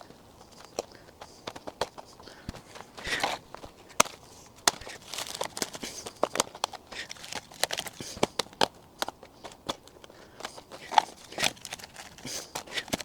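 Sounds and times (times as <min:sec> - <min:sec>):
rustling: 0:00.0 - 0:13.0
plastic panels clicking together: 0:00.4 - 0:13.0.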